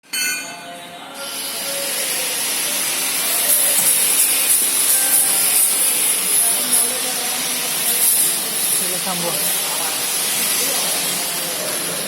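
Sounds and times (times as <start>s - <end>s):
high-pitched machine whine: 0.1s - 12.0s
drilling machine hiss: 1.2s - 12.0s.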